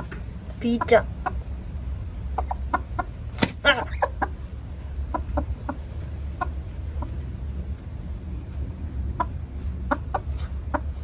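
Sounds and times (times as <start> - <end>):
hens clucking: 0.0 - 7.8, 8.9 - 11.0
low steady rumble: 0.0 - 11.0.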